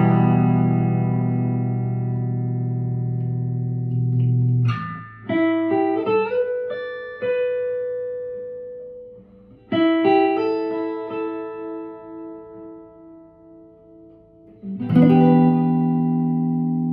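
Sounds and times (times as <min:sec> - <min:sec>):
electric guitar playing: 0:00.0 - 0:16.9.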